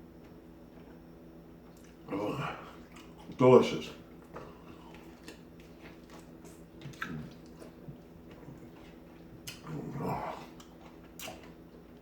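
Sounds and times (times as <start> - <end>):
person chewing wetly: 1.6 - 3.4, 4.0 - 12.0.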